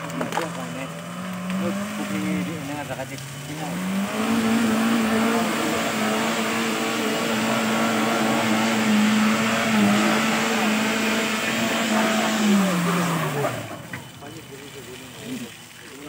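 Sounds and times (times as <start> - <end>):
car engine at high revs: 0.0 - 15.7.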